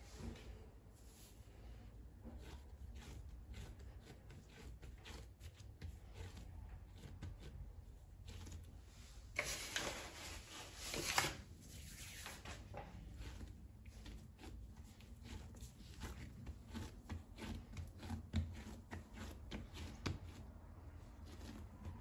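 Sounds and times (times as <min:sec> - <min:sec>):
rustling scrape: 0:00.0 - 0:22.0.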